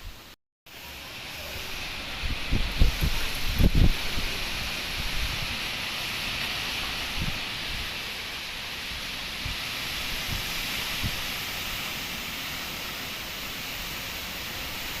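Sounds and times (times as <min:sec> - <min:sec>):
rain falling in wind: 0:00.0 - 0:15.0.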